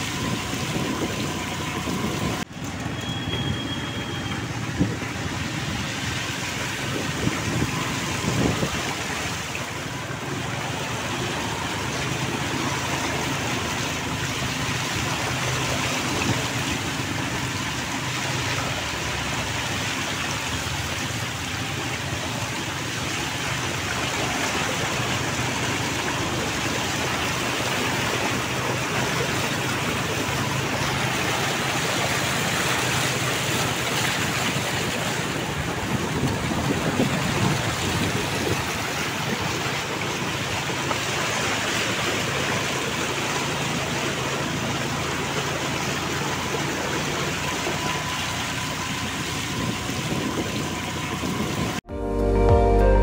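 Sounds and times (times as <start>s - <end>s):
low engine hum: 0.0s - 53.0s
rain rushing: 0.0s - 53.0s
vehicles splashing through water: 0.0s - 53.0s.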